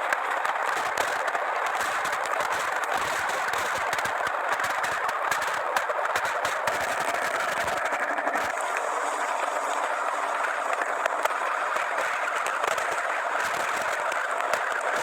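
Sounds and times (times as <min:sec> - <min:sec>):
fountain firework hissing and crackling: 0:00.0 - 0:15.0.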